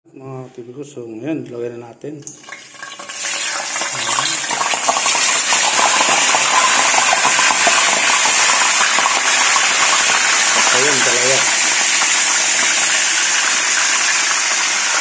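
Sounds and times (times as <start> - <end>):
fish sizzling in hot oil: 2.3 - 15.0.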